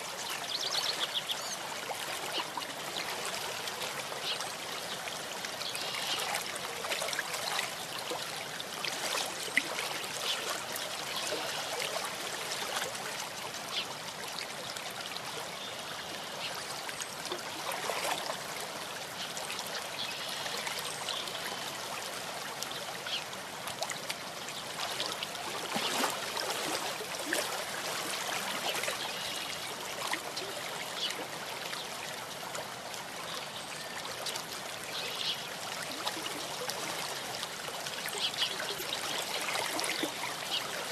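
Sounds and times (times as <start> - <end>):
small stream babbling: 0.0 - 40.9.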